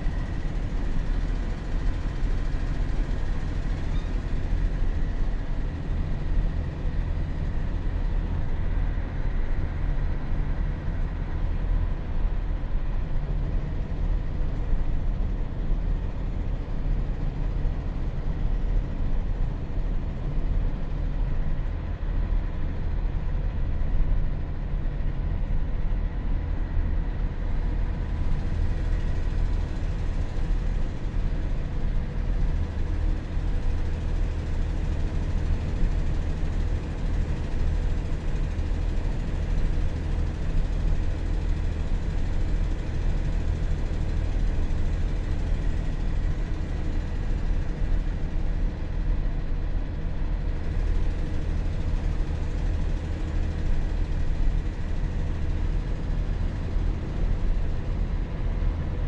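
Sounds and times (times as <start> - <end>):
faint steady whine: 0.0 - 59.0.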